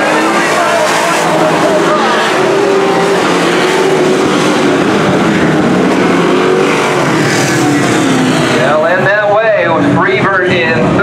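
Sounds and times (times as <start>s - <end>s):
race trucks passing by: 0.0s - 11.0s.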